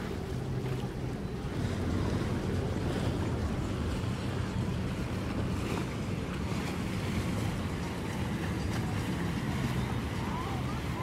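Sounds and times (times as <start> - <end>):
water noise from a boat: 0.0 - 11.0
wind buffeting microphone: 0.0 - 11.0.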